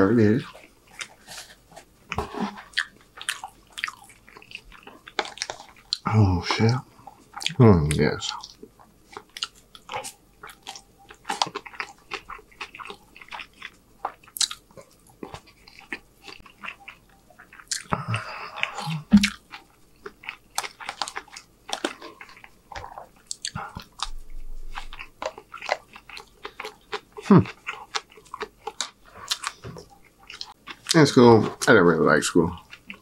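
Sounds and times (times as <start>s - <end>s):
person chewing food: 0.4s - 31.8s, 32.5s - 33.0s.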